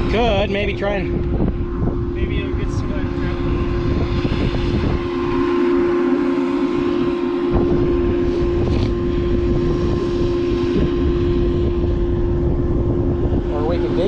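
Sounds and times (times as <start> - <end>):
farm machine engine whining: 0.0 - 14.0
low rumble: 0.0 - 14.0.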